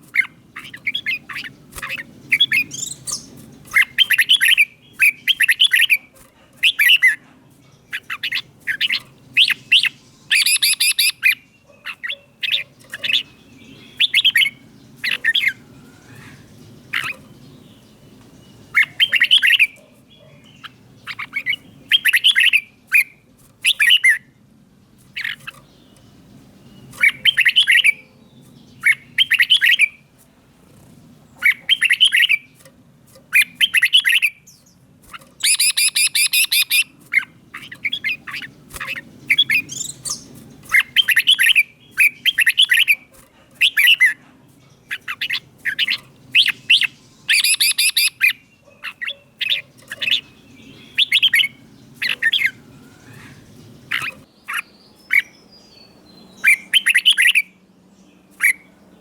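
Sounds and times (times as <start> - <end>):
bird singing warbling phrases: 0.0 - 59.0.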